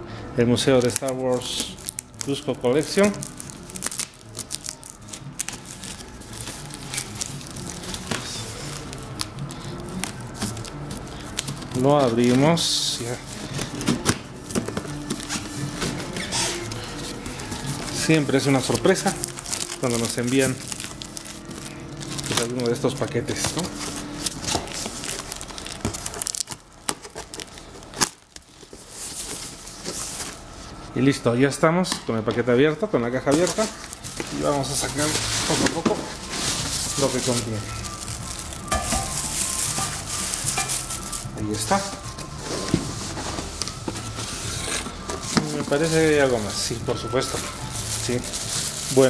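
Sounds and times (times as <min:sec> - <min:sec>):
plastic film crinkling: 0:00.6 - 0:31.0, 0:33.2 - 0:49.0
cardboard and plastic wrap crackling: 0:00.6 - 0:31.2, 0:32.3 - 0:49.0.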